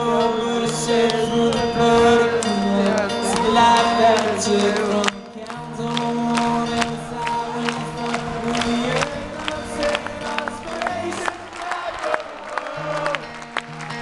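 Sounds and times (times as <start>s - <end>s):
acoustic guitar strumming chords: 0.0s - 14.0s
person singing: 0.0s - 14.0s.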